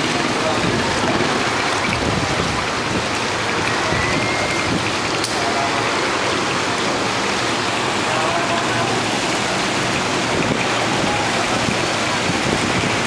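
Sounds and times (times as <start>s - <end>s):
water hissing over street: 0.0s - 13.0s.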